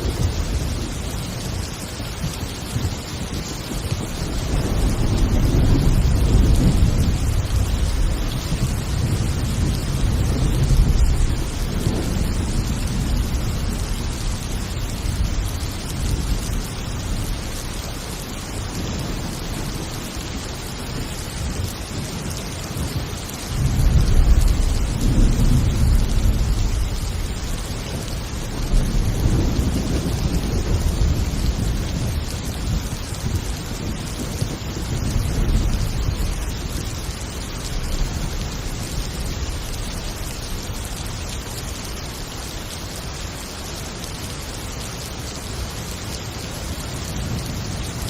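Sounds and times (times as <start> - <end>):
rolling thunder: 0.0 - 42.3
heavy rain: 0.0 - 48.0.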